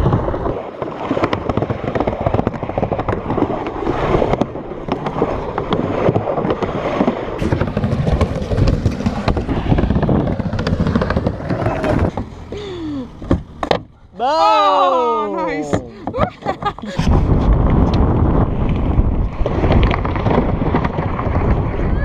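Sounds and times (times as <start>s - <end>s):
skateboard clacks and knocks: 0.0s - 12.5s, 13.2s - 14.0s, 15.7s - 17.1s, 18.4s - 21.7s
skateboard wheels rumbling: 0.0s - 14.1s, 15.7s - 22.0s.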